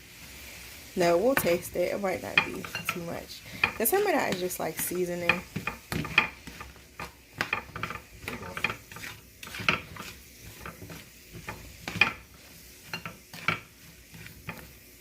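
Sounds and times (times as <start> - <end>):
faint sizzle: 0.0 - 15.0
utensil clinking and scraping pan: 1.2 - 14.8.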